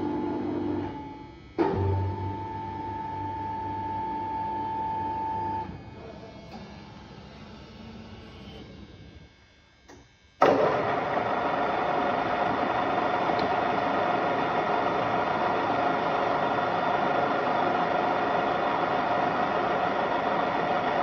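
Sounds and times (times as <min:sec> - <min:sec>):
machine mechanical hum: 0:00.0 - 0:21.0.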